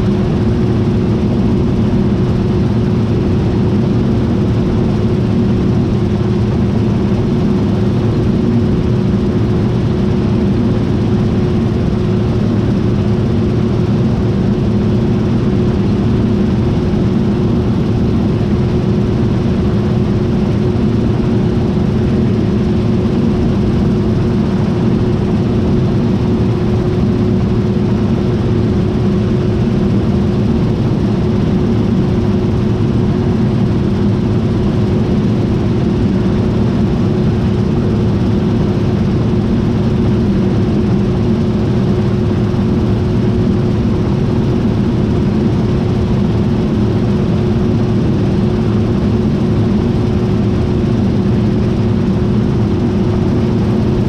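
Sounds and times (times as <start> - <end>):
combine harvester drone: 0.0 - 54.0
constant machine whine: 0.0 - 54.0.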